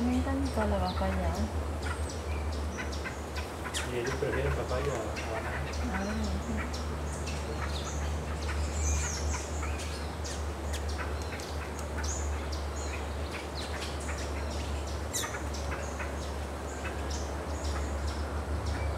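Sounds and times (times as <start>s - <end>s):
low steady hum: 0.0s - 18.9s
birds chirping and whistling: 1.8s - 18.9s.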